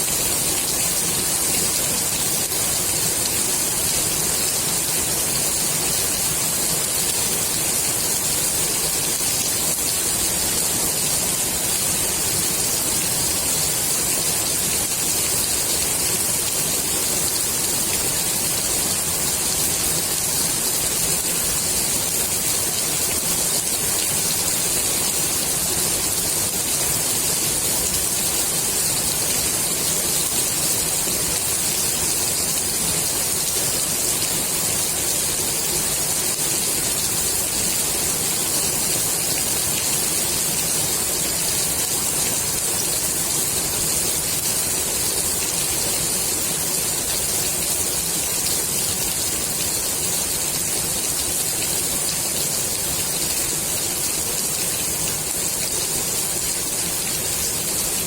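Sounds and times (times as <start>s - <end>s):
rain falling on pool water: 0.0s - 58.0s.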